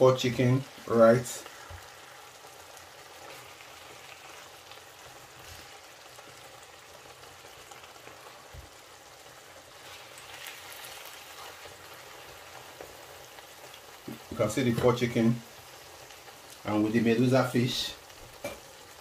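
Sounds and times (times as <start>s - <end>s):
stew sizzling in frying pan: 0.0s - 19.0s.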